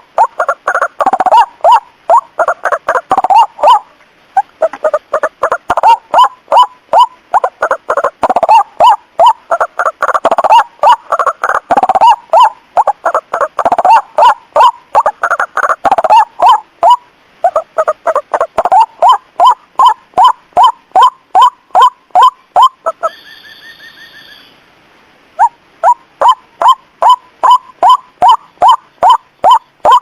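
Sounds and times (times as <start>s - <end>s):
waterhen calls: 0.0s - 30.0s.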